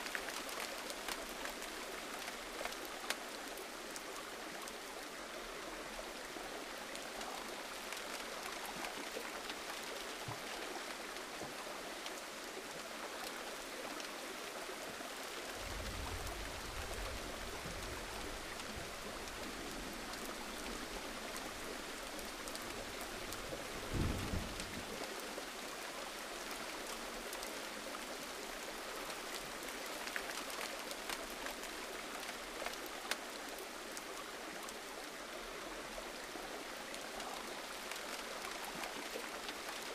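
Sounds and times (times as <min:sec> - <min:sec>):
raindrops striking a surface: 0:00.0 - 0:39.9
steady gentle rain: 0:00.0 - 0:39.9.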